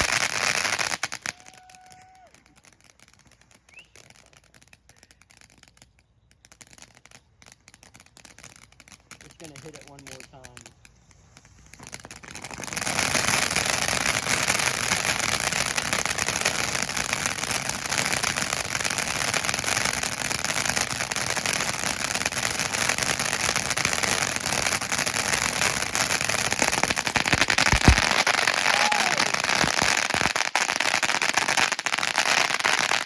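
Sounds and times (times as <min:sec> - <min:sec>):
fountain firework crackling: 0:00.0 - 0:33.0.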